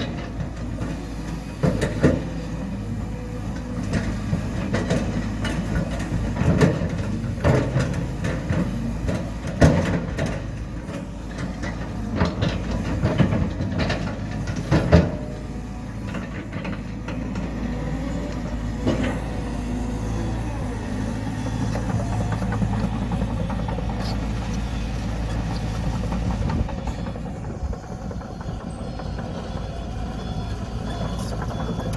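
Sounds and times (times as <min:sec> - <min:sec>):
heavy diesel machinery running: 0:00.0 - 0:31.9.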